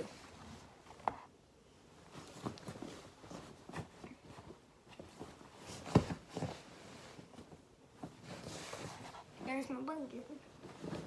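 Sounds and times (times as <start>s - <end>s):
blanket rustling: 1.8s - 11.0s.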